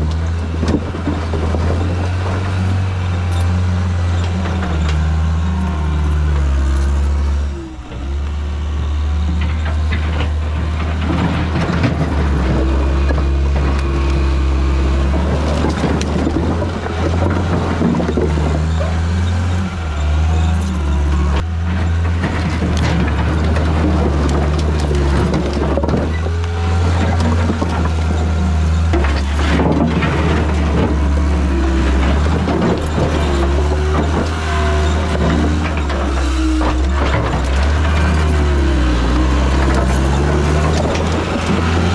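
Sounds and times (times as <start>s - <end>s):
knocks and clatter: 0.0s - 5.4s, 6.1s - 41.9s
diesel engine under load: 0.0s - 41.9s.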